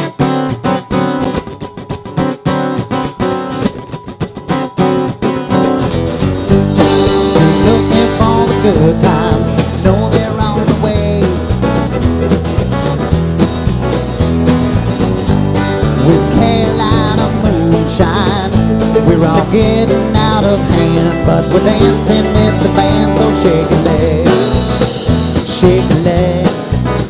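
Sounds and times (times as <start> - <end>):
acoustic guitar strumming: 0.0 - 27.0
country band playing: 0.0 - 27.0.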